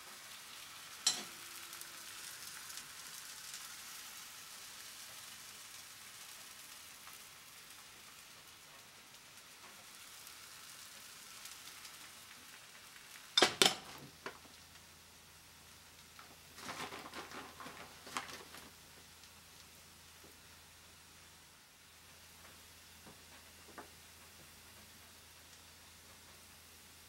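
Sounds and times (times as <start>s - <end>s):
batter sizzling in a frying pan: 0.0s - 27.0s.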